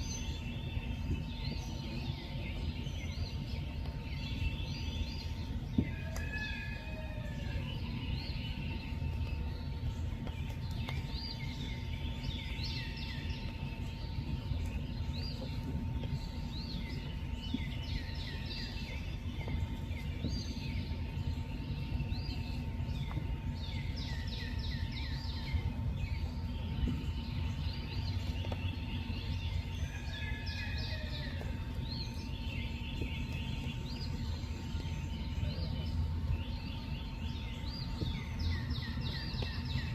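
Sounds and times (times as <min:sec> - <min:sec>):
birds singing: 0:00.0 - 0:39.9
faint high hum: 0:00.0 - 0:39.9
steady low rumble: 0:00.0 - 0:39.9.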